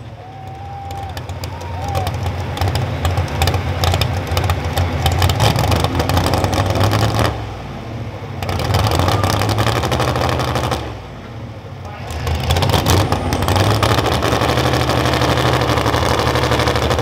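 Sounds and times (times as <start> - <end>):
truck engine rough idle: 0.0 - 17.0
rapid engine crackle: 0.5 - 7.5, 8.4 - 11.1, 11.9 - 17.0.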